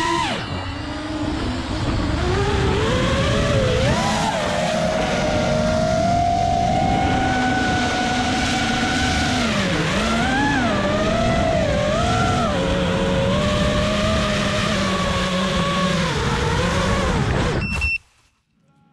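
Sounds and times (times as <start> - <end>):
wind and propeller noise: 0.0 - 17.7
drone motors whining: 0.0 - 18.0.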